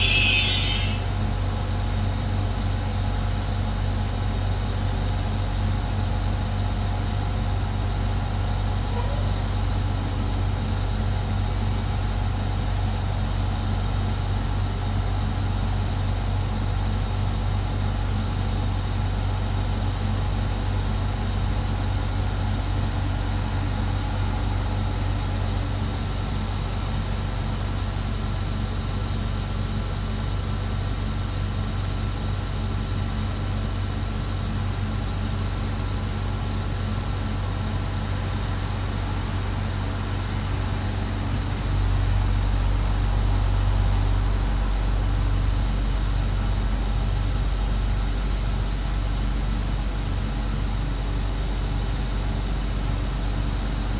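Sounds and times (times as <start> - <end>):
diesel engine low hum: 0.0 - 53.9.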